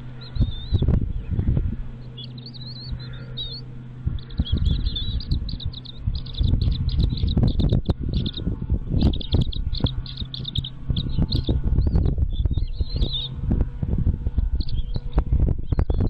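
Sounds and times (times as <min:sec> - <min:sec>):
chicks begging chirps: 0:00.0 - 0:13.5, 0:14.5 - 0:16.0.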